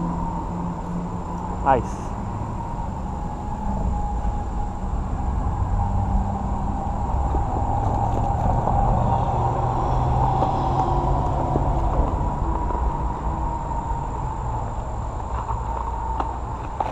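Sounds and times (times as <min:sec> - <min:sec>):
vehicle traffic rumble: 0:00.0 - 0:16.9.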